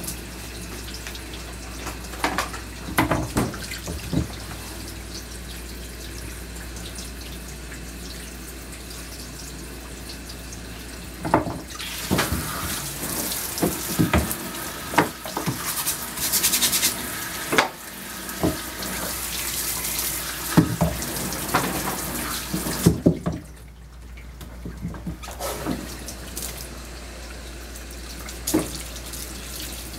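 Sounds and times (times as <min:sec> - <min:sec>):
water running in a tub: 0:00.0 - 0:29.9.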